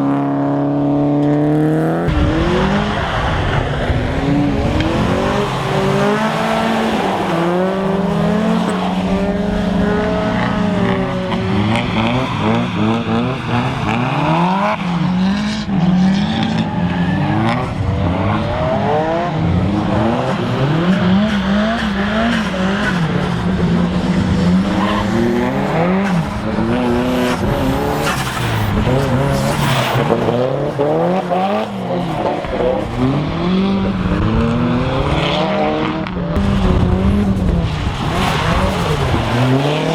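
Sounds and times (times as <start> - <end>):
car engines revving: 0.0 - 39.9
tyres skidding: 0.0 - 39.9.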